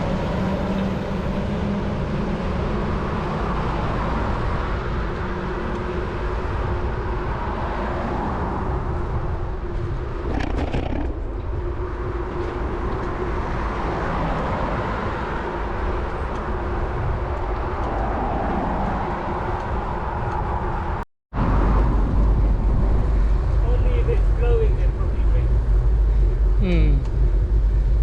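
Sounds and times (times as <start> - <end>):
road traffic: 0.0 - 28.0
wind rumble on microphone: 0.0 - 28.0.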